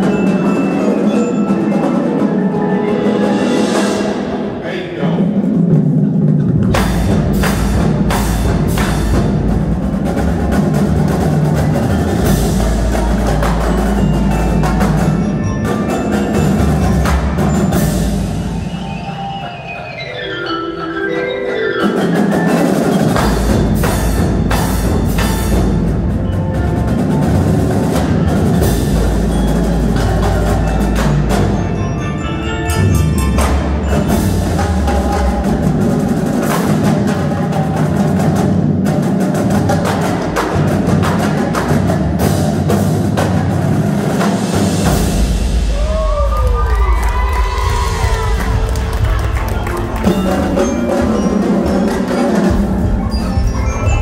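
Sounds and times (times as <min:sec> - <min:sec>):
marimbas and mallet keyboards: 0:00.0 - 0:04.6, 0:05.2 - 0:46.0, 0:47.2 - 0:54.0
marching drums: 0:00.0 - 0:19.4, 0:21.8 - 0:54.0.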